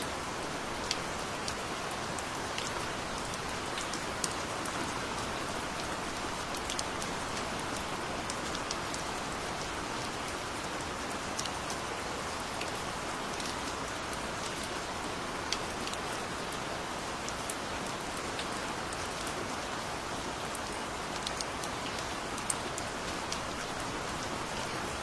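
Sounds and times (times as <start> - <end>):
gentle rain hissing: 0.0 - 25.0.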